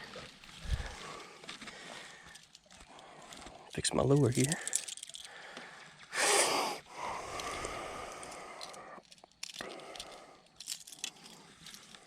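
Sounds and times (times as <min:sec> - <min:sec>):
fishing tackle rustling: 0:00.0 - 0:06.1, 0:07.0 - 0:12.0.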